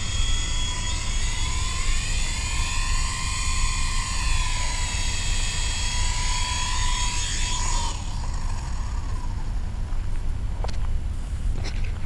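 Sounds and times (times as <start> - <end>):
toy helicopter motor whining: 0.0 - 10.4.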